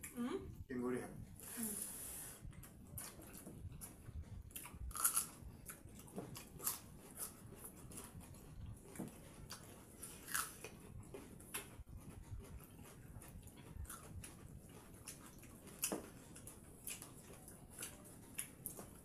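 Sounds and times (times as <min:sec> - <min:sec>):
crunchy chewing: 0:02.5 - 0:19.0.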